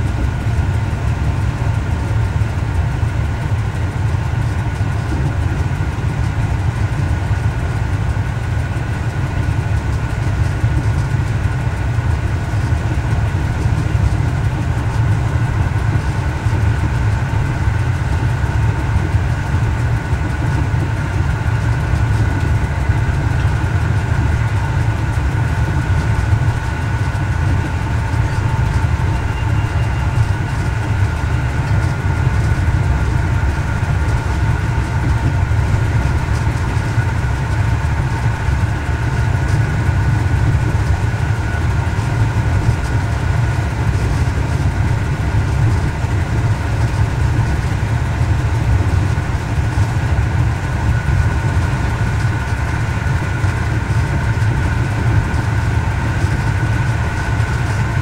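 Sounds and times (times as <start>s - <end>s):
constant high whine: 0.0s - 58.0s
railcar diesel engine drone: 0.0s - 58.0s.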